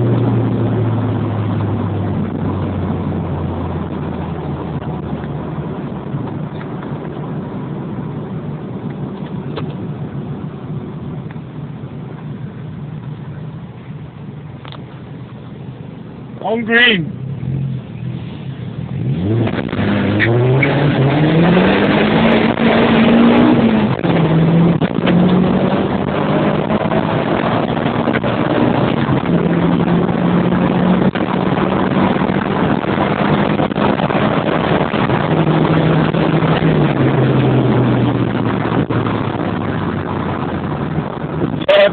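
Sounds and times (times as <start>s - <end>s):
car engine pulling away: 0.0s - 16.3s, 17.1s - 41.9s.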